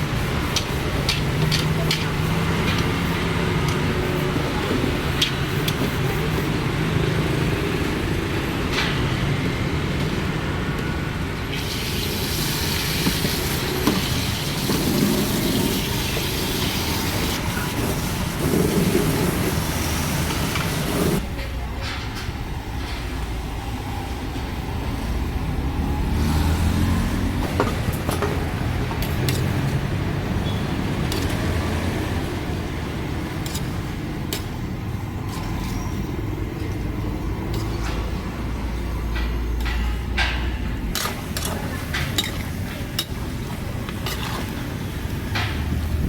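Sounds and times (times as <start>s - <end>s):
vehicle engines passing: 0.0s - 21.8s, 22.5s - 46.0s.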